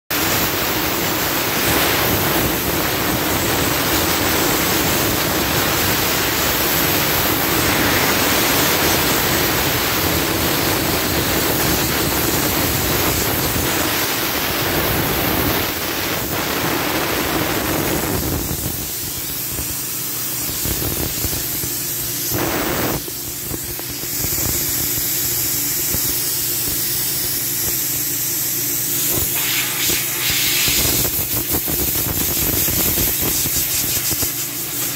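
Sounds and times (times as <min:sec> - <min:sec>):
compressed air hissing from blow gun: 0:00.2 - 0:34.9.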